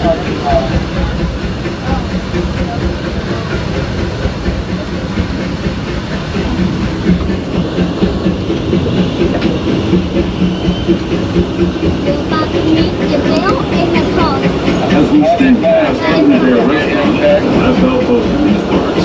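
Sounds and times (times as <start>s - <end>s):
train rumbling and clattering: 0.0s - 19.0s.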